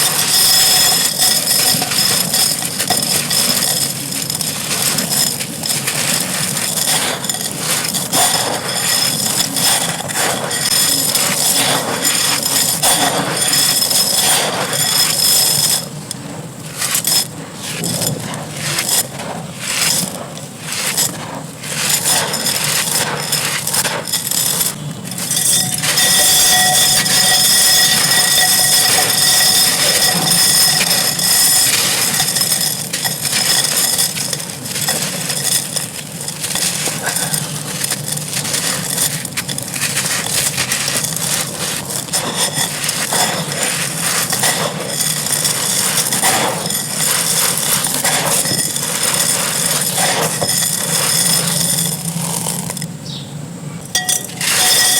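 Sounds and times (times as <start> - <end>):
dry clay crumbling and crunching: 0.0 - 52.9.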